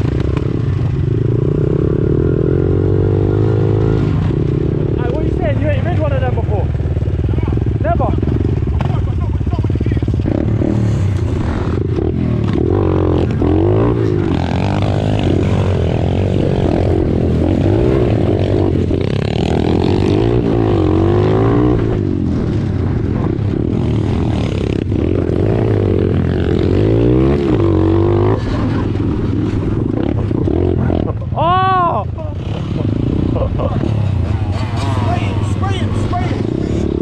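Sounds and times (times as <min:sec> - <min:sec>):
off-road engine revving: 0:00.0 - 0:37.0.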